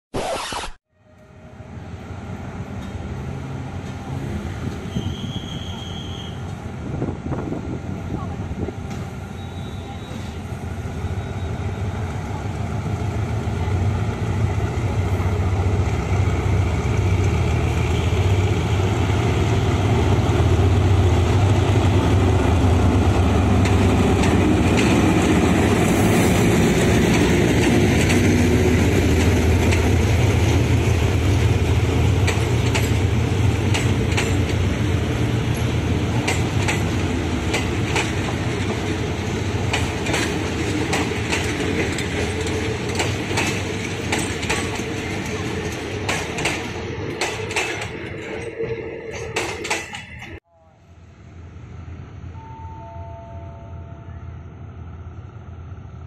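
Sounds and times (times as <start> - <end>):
diesel locomotive engine rumble: 1.0 - 56.0
wheels clickety-clack over rail joints: 2.6 - 10.6, 11.2 - 50.4.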